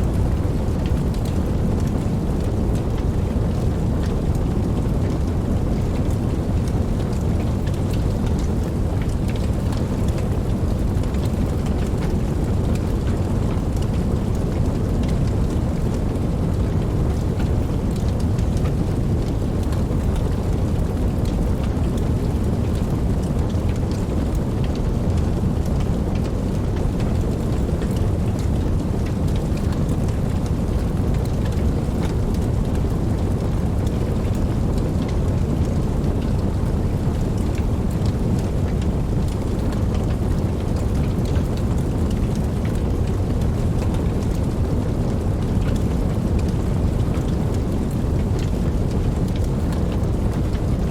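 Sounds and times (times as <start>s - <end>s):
raindrops ticking: 0.0s - 50.9s
steady rain: 0.0s - 50.9s.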